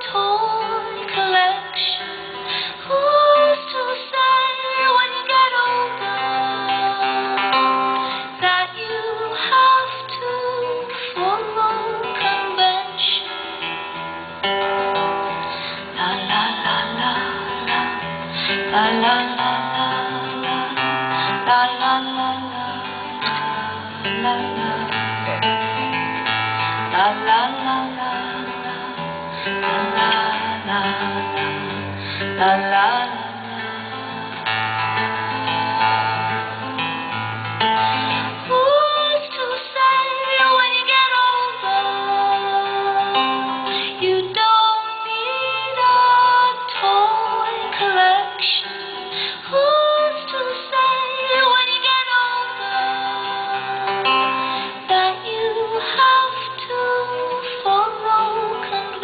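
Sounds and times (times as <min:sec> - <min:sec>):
acoustic guitar playing: 0:00.0 - 0:59.0
woman singing: 0:00.0 - 0:59.0.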